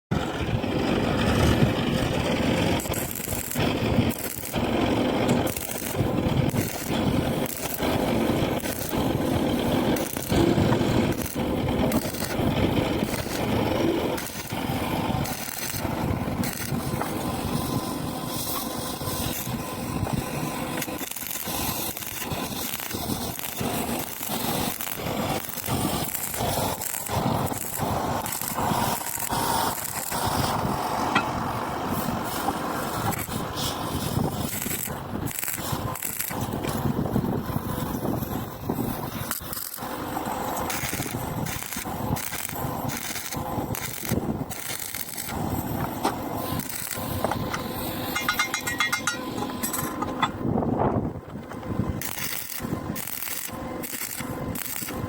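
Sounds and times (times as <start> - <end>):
electric arc welding crackling: 1.0 - 49.6, 51.9 - 55.0
welding arc pops: 2.7 - 31.4, 32.0 - 37.2, 38.8 - 39.9, 40.5 - 50.3, 52.0 - 55.0.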